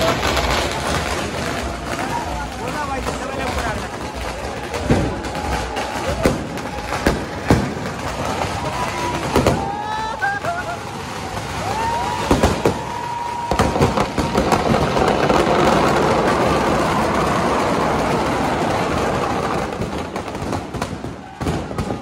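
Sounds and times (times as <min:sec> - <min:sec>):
firecrackers crackling and banging: 0:00.0 - 0:22.0.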